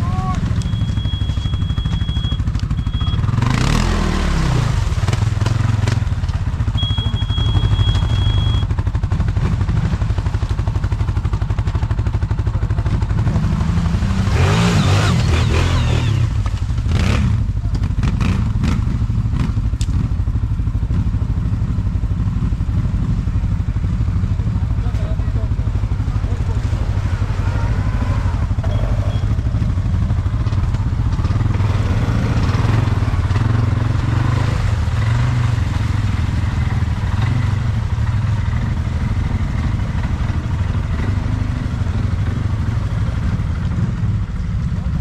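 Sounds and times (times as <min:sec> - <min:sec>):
quad bike engine revving: 0:00.0 - 0:44.2.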